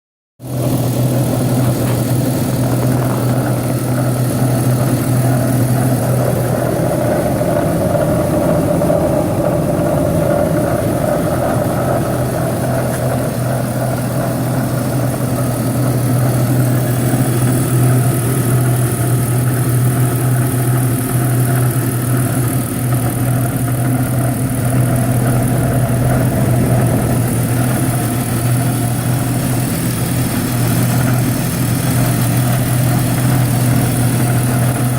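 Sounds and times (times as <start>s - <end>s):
car engine running: 0.4s - 34.9s.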